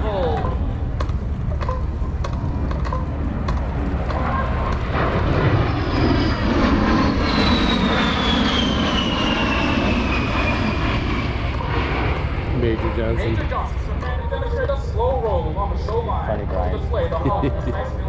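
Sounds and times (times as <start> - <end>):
jet rumble with high whine: 0.0 - 18.0.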